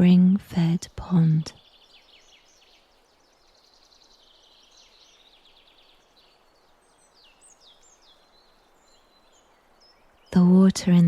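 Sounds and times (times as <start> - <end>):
birds chirping trills: 0.0 - 11.0
soft hiss: 1.1 - 10.6.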